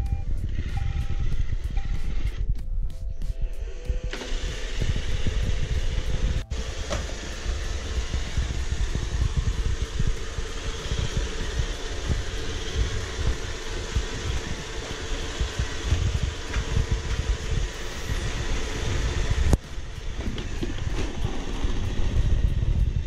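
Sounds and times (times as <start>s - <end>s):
low rumble: 0.0s - 23.0s
robot vacuum motor whir: 3.6s - 23.0s.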